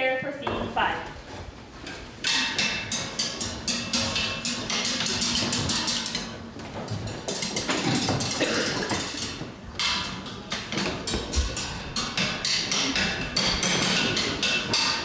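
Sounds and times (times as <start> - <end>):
percussion knocking and clattering: 2.2 - 15.0.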